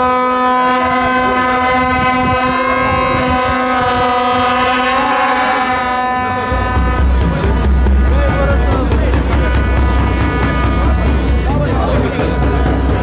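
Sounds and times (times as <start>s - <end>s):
horn long steady note: 0.0s - 13.0s
wind buffeting microphone: 0.6s - 13.0s.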